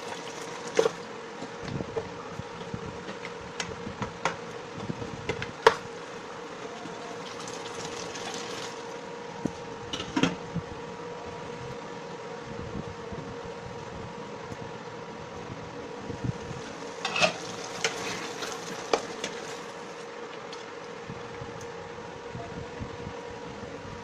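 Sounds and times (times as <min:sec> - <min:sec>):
cooktop fan humming: 0:00.0 - 0:24.0.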